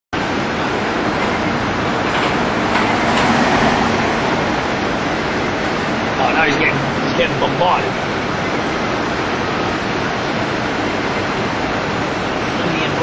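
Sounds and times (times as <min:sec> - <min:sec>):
city street traffic: 0:00.2 - 0:13.0.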